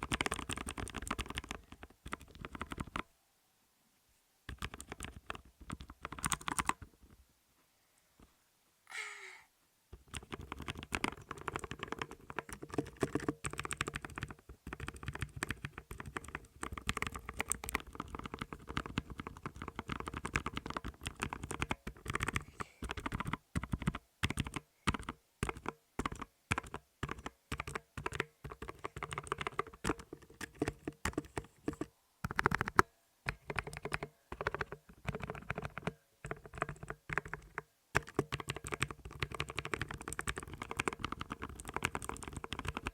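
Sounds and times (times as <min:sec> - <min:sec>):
typing on clicky mechanical keyboard: 0:00.0 - 0:03.0, 0:04.5 - 0:06.9, 0:10.0 - 0:42.9.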